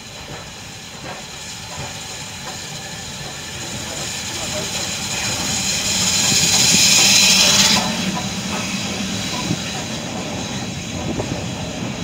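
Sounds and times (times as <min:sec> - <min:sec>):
steam locomotive hissing steam: 0:00.0 - 0:12.0.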